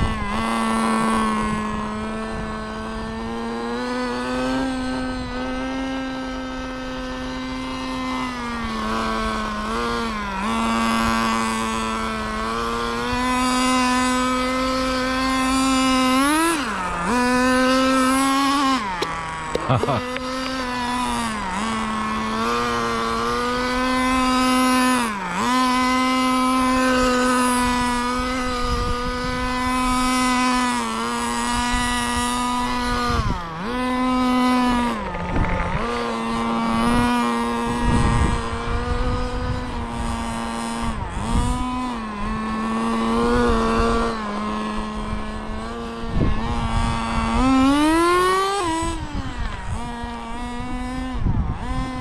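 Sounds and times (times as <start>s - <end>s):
rc car engine revving: 0.0s - 52.0s.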